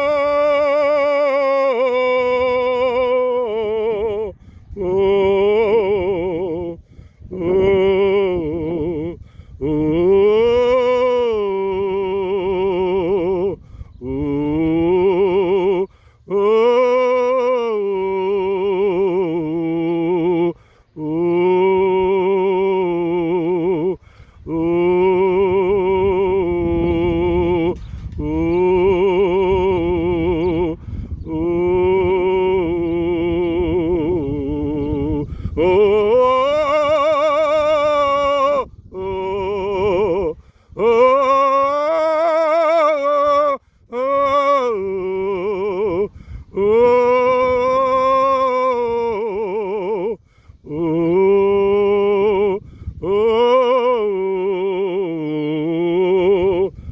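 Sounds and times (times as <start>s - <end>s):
person singing with vibrato: 0.0s - 56.9s.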